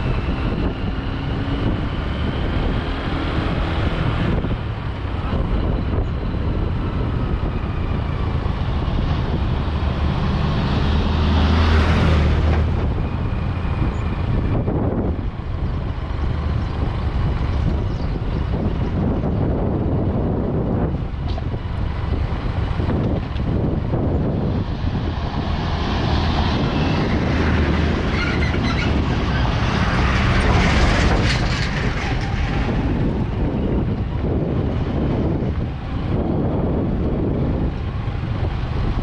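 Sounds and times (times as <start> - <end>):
vehicle and road noise: 0.0 - 39.0
wind on microphone: 0.0 - 39.0.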